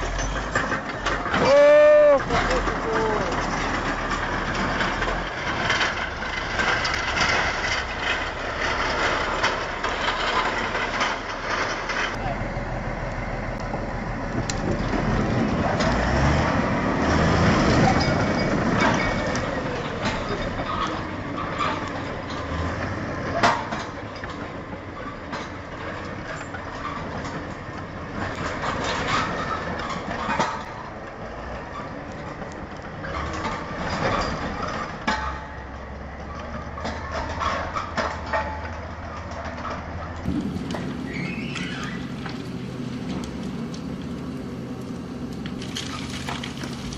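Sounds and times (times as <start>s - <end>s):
heavy machinery running: 0.0s - 46.9s.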